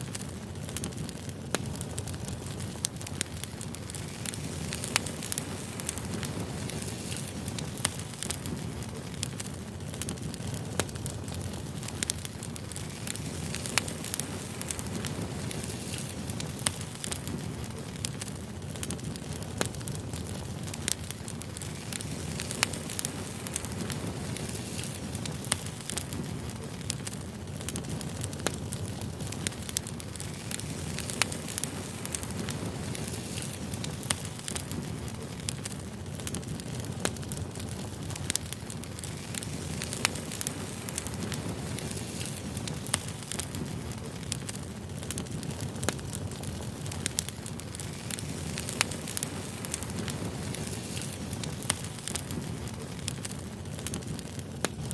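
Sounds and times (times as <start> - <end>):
firewood crackling and popping: 0.0 - 54.9
low rumble of flame: 0.0 - 54.9.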